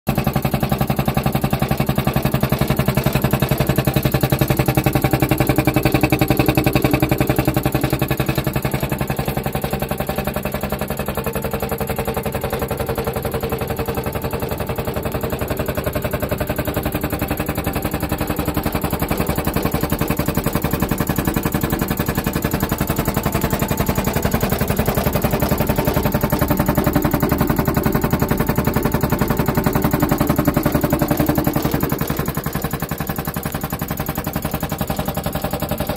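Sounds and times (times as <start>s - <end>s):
air compressor knocking: 0.1s - 35.9s.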